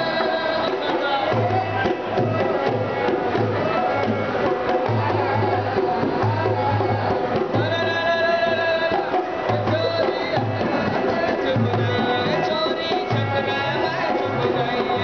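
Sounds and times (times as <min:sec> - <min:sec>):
folk melody: 0:00.0 - 0:15.0
hand drum beating: 0:00.0 - 0:15.0.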